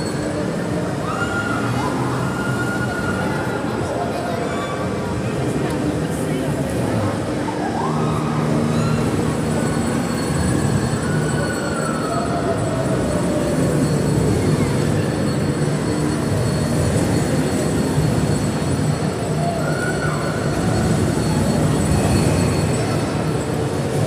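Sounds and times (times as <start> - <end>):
low rumbling indoor din: 0.0 - 24.0.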